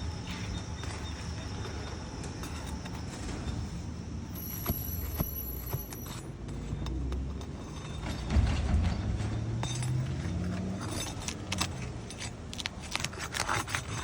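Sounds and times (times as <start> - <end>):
metal tools scraping on shingles: 0.0 - 14.0.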